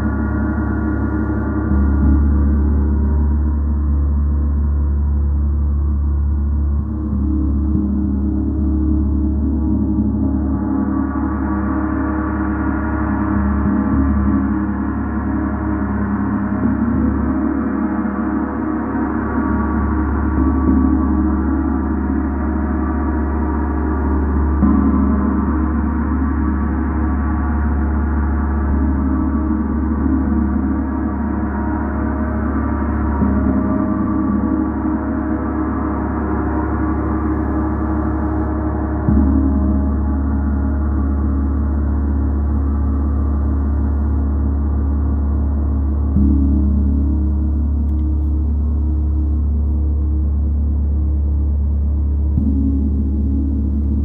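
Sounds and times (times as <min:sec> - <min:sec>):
deep low hum: 0:00.0 - 0:54.0.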